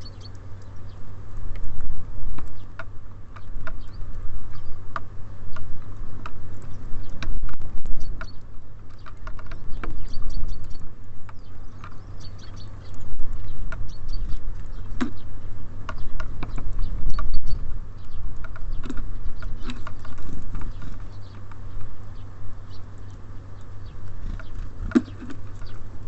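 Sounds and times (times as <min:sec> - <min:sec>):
beaks pecking on feeder: 0:00.0 - 0:26.0
small birds chirping: 0:00.0 - 0:26.0.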